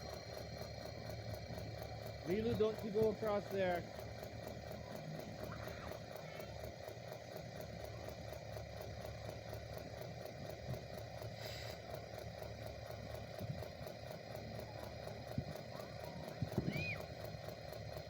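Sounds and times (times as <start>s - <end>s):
small motor humming: 0.0s - 18.0s.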